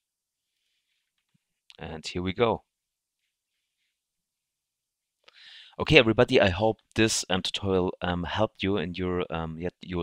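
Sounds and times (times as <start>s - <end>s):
faint recording hiss: 0.0s - 10.0s.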